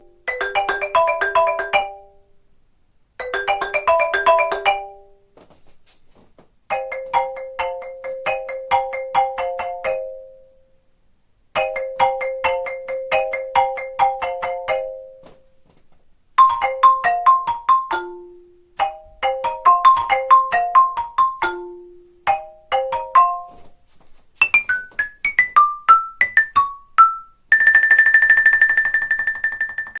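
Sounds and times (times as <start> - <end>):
xylophone playing ringtone tunes: 0.0 - 2.2, 3.2 - 5.2, 6.7 - 10.6, 11.6 - 15.2, 16.4 - 23.7, 24.4 - 30.0.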